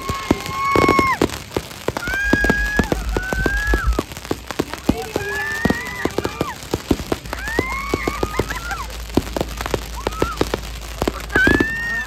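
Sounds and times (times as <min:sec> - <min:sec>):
people shrieking: 0:00.0 - 0:04.2, 0:04.8 - 0:12.0
fireworks crackling and popping: 0:00.0 - 0:12.0.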